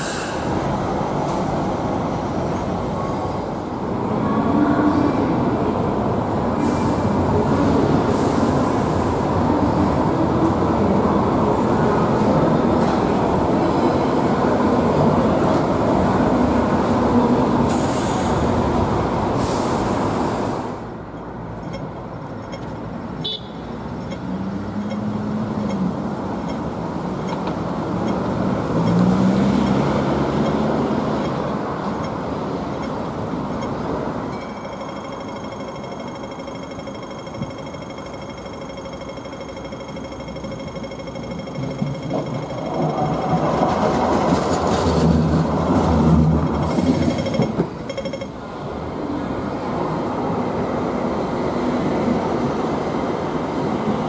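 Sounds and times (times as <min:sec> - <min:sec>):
light rail car rumbling on tracks: 0:00.0 - 0:54.0
road traffic: 0:00.0 - 0:54.0.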